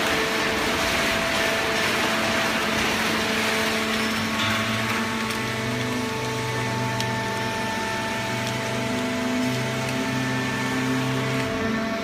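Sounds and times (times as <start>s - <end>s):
baling press machine hum and whine: 0.0s - 12.0s
deeper machine hum: 0.0s - 12.0s.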